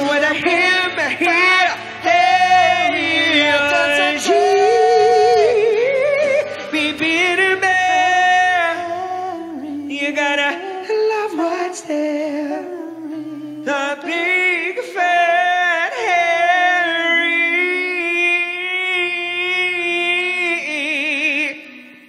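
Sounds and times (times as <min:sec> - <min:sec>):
faint electric guitar: 0:00.0 - 0:22.0
man singing without words: 0:00.0 - 0:22.0.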